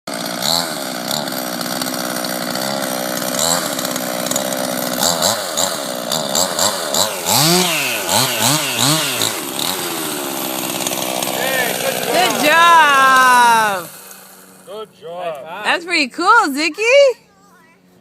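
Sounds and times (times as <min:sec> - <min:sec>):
chainsaw engine idling and revving: 0:00.1 - 0:16.5.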